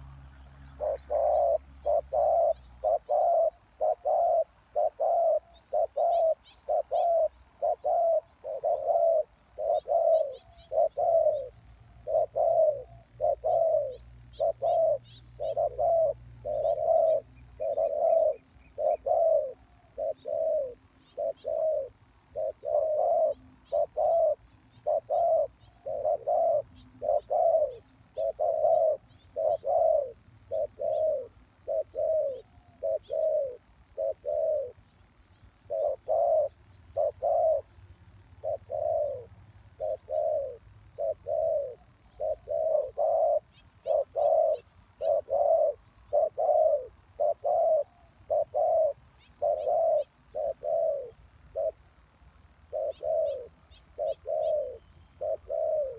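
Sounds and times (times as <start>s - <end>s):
dove cooing: 0.0s - 52.0s, 52.6s - 55.9s
small birds chirping: 0.0s - 55.9s.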